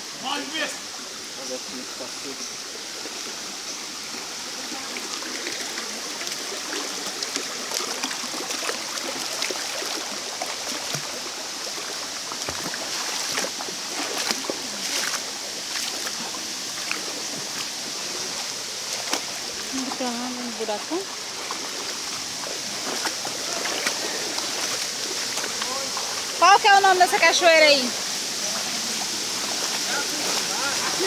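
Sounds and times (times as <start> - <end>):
stream running over rocks: 0.0 - 31.0
feet wading splashes: 4.1 - 31.0.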